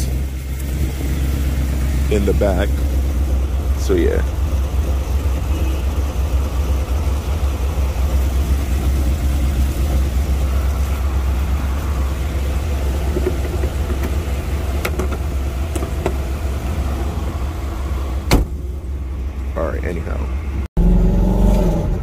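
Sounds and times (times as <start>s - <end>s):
car engine idling: 0.0s - 20.7s.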